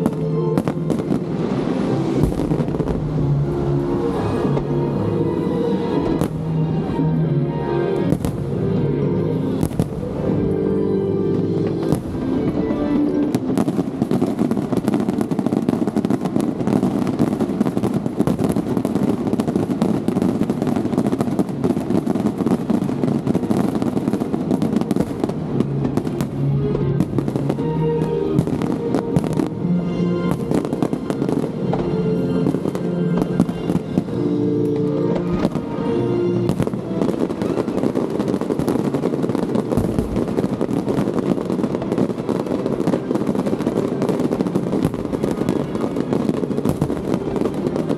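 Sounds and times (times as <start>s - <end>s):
fireworks bangs and crackles: 0.0s - 47.9s
music playing: 0.0s - 47.9s.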